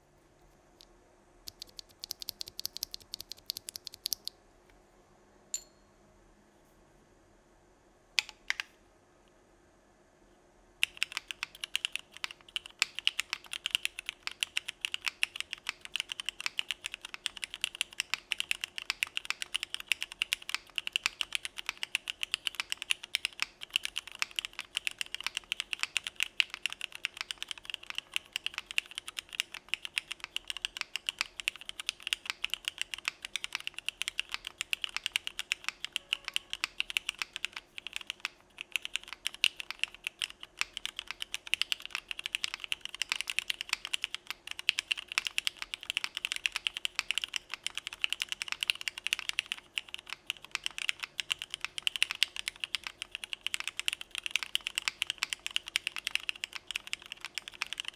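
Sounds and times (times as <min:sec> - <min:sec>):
fast mechanical keyboard typing: 0:01.4 - 0:04.3, 0:10.8 - 0:57.9.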